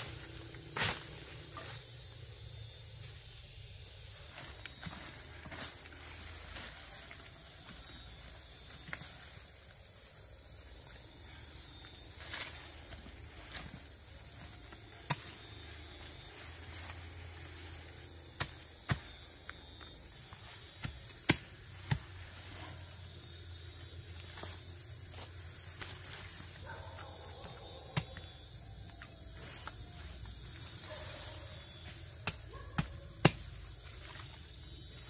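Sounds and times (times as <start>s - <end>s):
high-pitched insect chirring: 0.0s - 35.0s.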